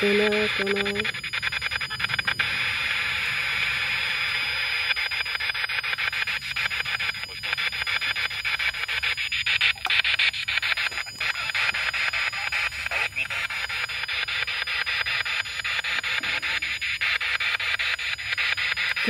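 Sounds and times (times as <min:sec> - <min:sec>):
radio static chopped rapidly: 0:00.0 - 0:19.0.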